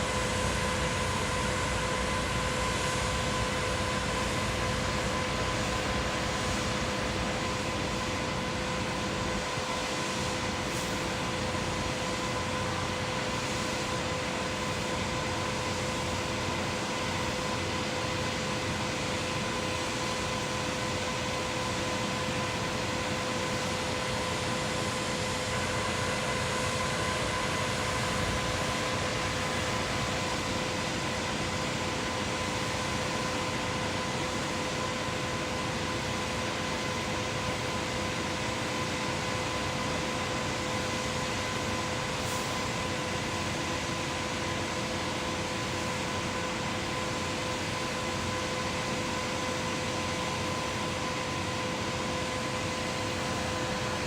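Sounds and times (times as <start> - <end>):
concrete pump machinery running: 0.0 - 54.0.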